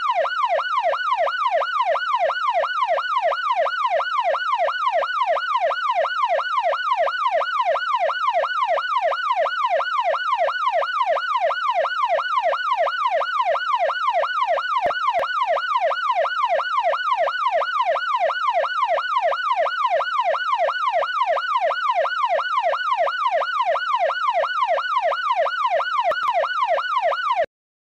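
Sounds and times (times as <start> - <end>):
police siren yelping: 0.0 - 27.5.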